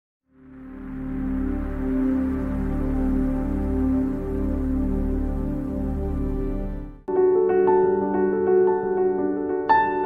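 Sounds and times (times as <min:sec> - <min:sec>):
ambient music sustained chord: 0:00.2 - 0:09.6.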